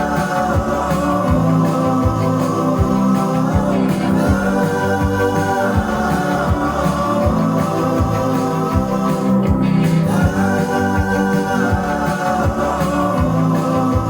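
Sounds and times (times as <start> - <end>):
steady drum beat: 0.0 - 14.0
synthesizer chords: 0.0 - 14.0.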